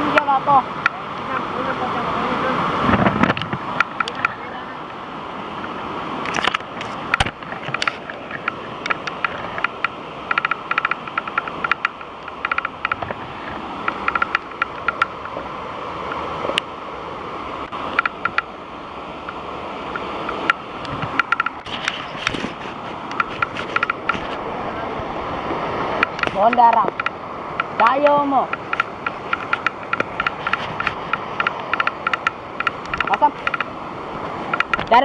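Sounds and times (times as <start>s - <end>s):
waterfall roaring: 0.0s - 35.0s.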